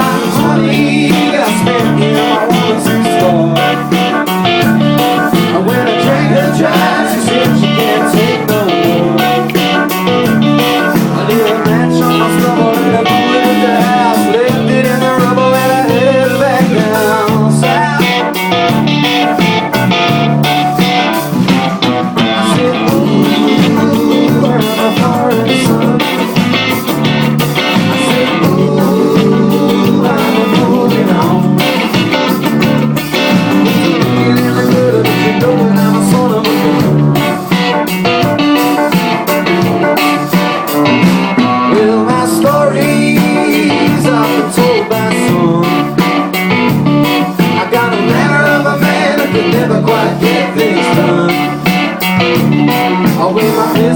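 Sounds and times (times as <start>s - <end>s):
live guitar music: 0.0s - 53.9s.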